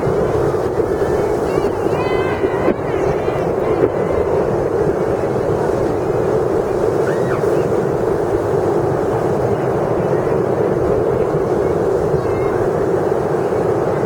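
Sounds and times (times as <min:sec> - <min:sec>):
stormy sea surf: 0:00.0 - 0:14.0
wind blowing on microphone: 0:00.0 - 0:14.0.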